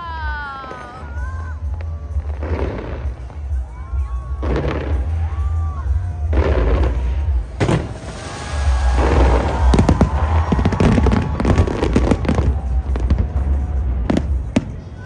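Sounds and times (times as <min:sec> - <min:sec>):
fireworks bangs and crackles: 0:00.2 - 0:15.0
low rumble: 0:01.1 - 0:15.0.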